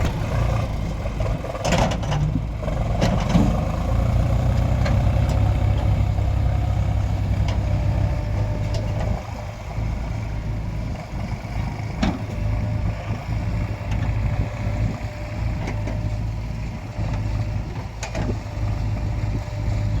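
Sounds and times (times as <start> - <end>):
diesel engine under load: 0.0 - 20.0.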